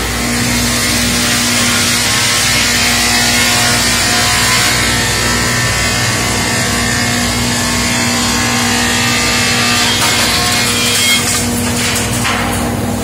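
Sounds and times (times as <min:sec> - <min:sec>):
sawmill running hum: 0:00.0 - 0:13.0.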